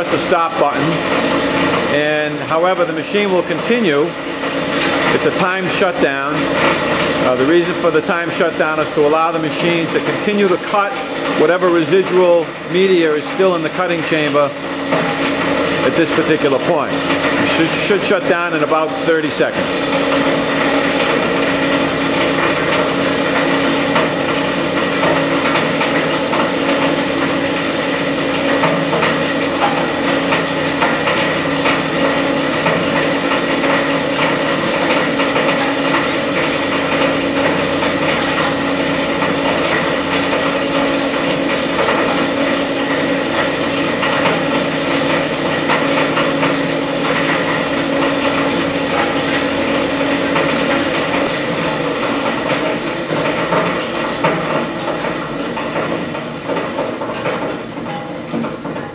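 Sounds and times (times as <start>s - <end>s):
machine hum: 0.0s - 58.9s.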